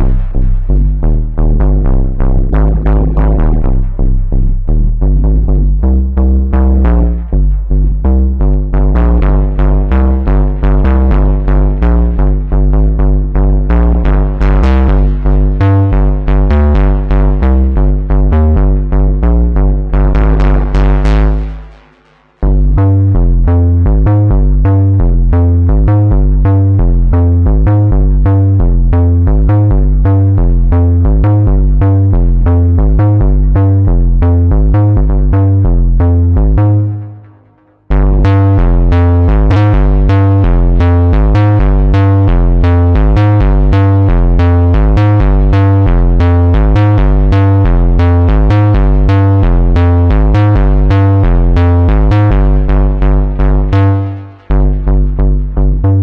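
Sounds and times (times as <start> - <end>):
synthesizer bass pattern: 0.0 - 56.0.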